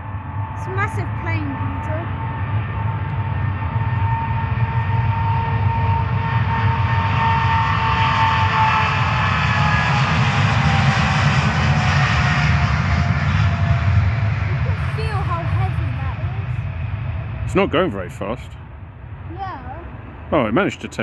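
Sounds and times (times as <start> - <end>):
jet engine roar with whine: 0.0 - 21.0.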